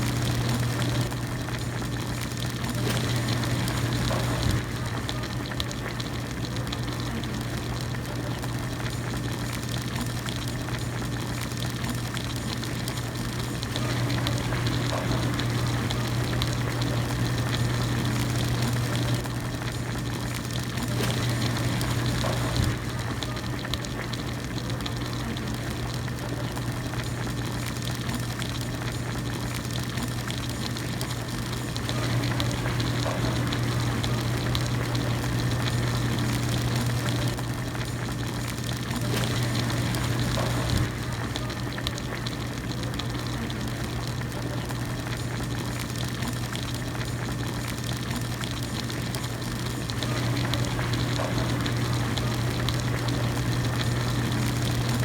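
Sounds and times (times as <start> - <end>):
broth boiling in a pot: 0.0 - 55.0.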